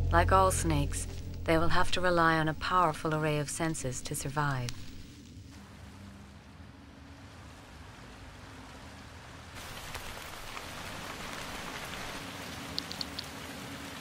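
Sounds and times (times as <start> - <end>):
rain falling and dripping: 0.0 - 14.0.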